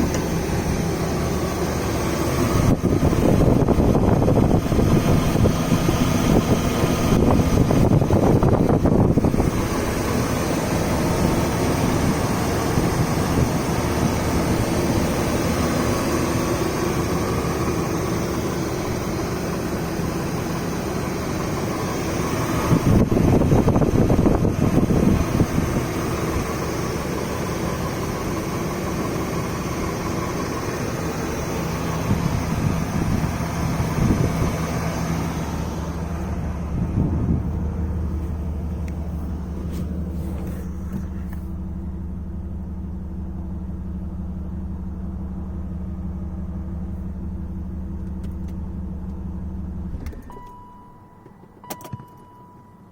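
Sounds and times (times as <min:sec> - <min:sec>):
car engine idling with rattle: 0:00.0 - 0:52.9.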